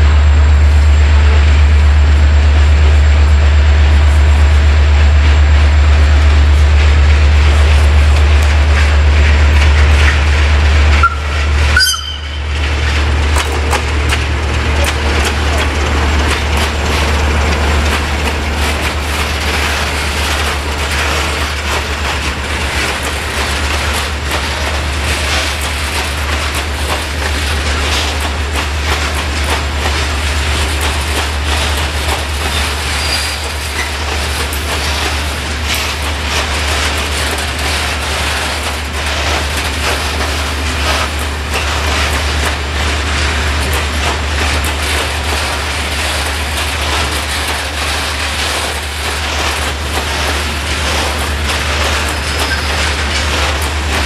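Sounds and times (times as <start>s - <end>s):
train wheels clattering over joints: 3.9s - 54.0s.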